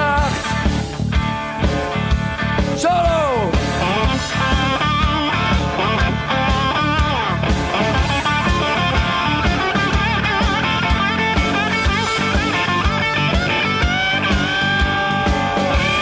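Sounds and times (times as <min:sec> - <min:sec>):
electric guitar lead: 0:00.0 - 0:16.0
steady drum beat: 0:00.0 - 0:16.0.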